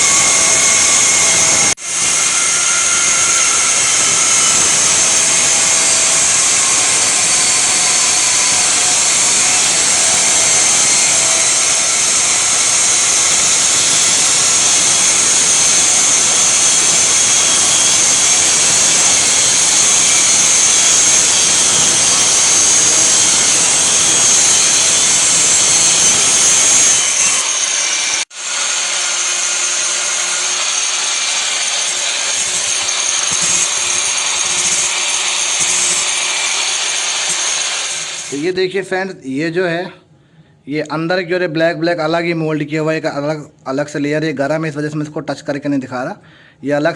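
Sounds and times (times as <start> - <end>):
angle grinder cutting steel: 0.0 - 38.6.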